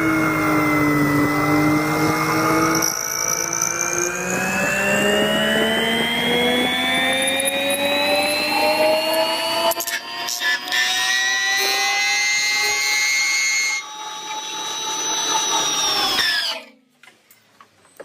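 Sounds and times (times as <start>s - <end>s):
friction welding machine whine: 0.0s - 16.6s.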